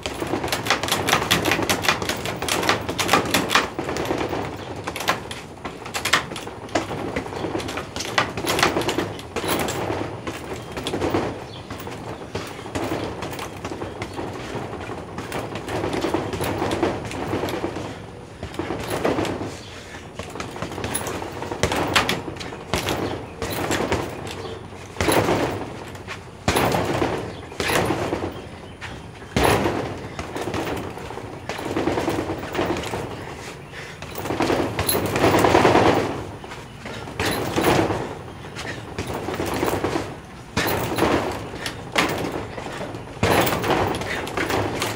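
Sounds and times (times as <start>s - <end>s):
fists punching heavy bag: 0.0s - 44.9s.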